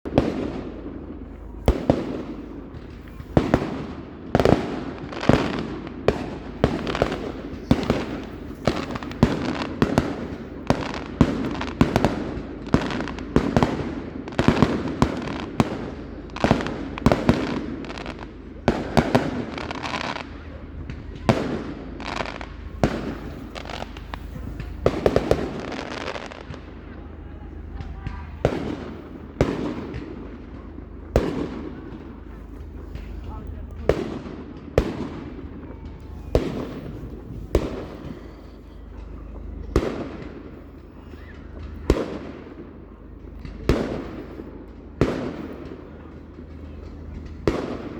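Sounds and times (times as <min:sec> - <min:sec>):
fireworks rumble and crackle: 0:00.0 - 0:47.9
fireworks bangs and cracks: 0:00.1 - 0:47.9.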